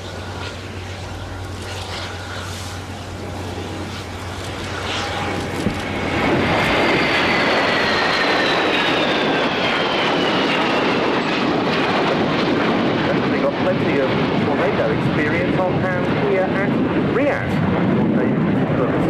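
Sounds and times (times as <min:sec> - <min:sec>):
jet flying by: 0:00.0 - 0:19.0.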